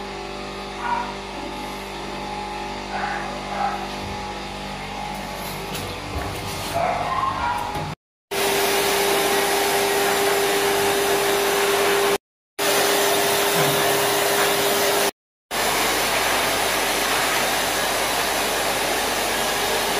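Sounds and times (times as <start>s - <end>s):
pet dryer blowing air: 0.0s - 6.4s, 7.6s - 19.9s.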